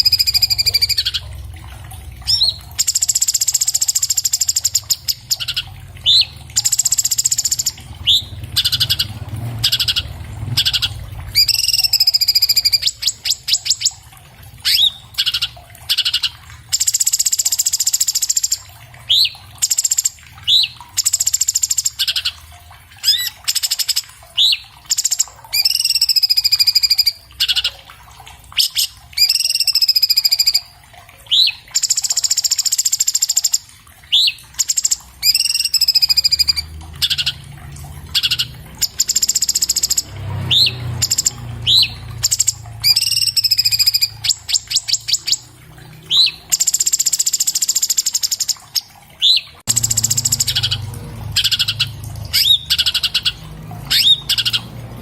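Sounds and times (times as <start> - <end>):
bird singing trills and whistles: 0.0 - 1.3, 2.2 - 14.0, 14.6 - 22.4, 23.0 - 27.8, 28.6 - 30.7, 31.3 - 37.4, 38.1 - 45.5, 46.1 - 54.7.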